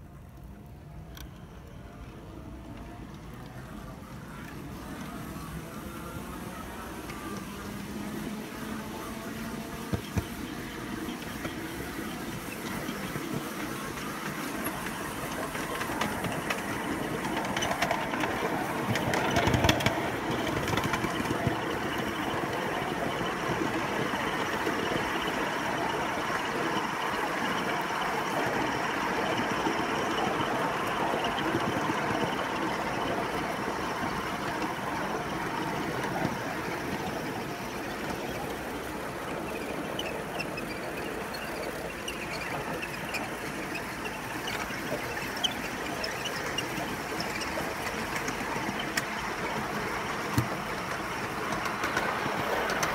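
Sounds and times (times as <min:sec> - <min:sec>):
small wheels rolling on rails: 0:00.0 - 0:52.9.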